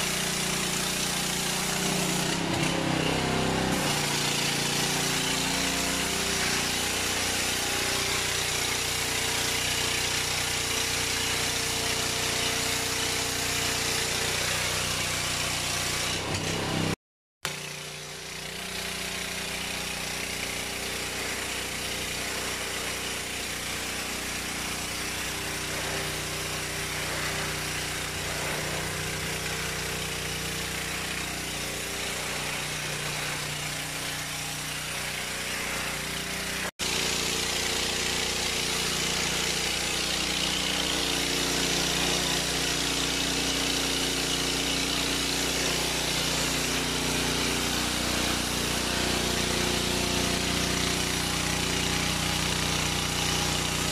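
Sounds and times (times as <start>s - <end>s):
water jet hissing: 0.0s - 16.2s, 19.2s - 53.9s
pressure washer engine hum: 0.0s - 53.9s.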